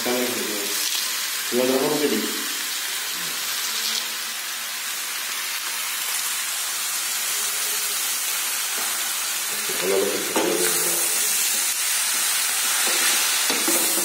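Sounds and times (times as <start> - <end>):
pork sizzling in a wok: 0.0 - 14.0.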